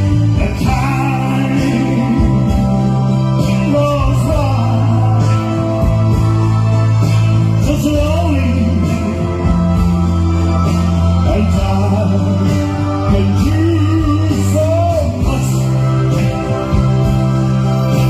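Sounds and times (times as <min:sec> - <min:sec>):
slow song: 0:00.0 - 0:18.0.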